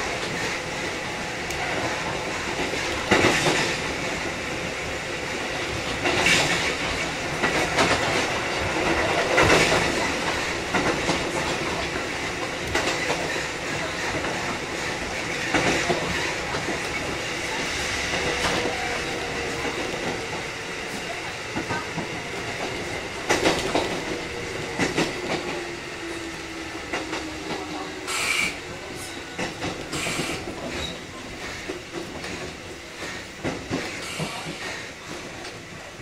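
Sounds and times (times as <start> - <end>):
electric train rolling: 0.0 - 36.0.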